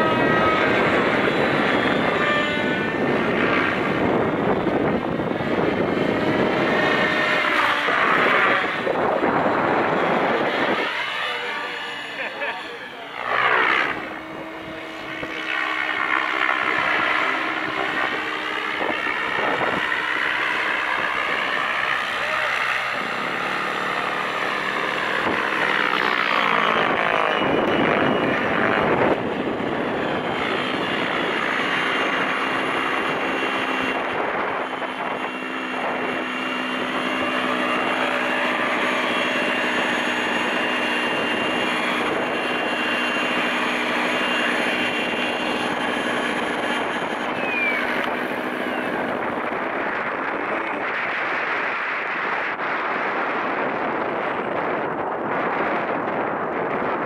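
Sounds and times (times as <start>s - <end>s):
model helicopter drone: 0.0s - 57.0s.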